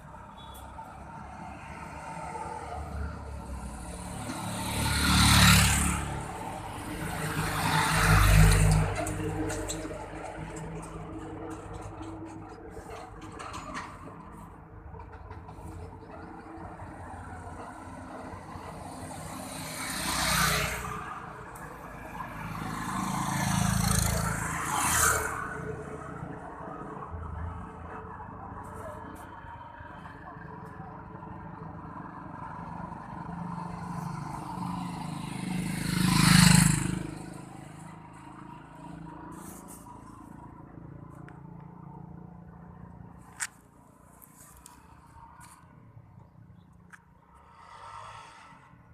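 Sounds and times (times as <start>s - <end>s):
motor vehicles passing by: 0.0s - 48.9s.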